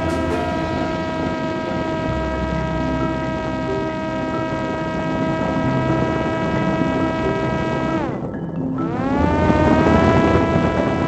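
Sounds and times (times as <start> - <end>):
drone motor and propeller whine: 0.0 - 11.0.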